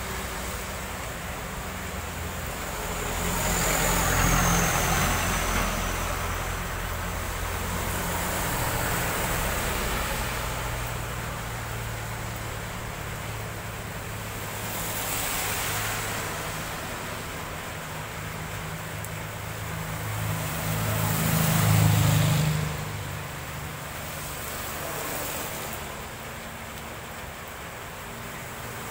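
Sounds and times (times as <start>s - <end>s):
engines rumbling: 0.0s - 28.9s
tyres hissing on wet road: 0.0s - 28.9s.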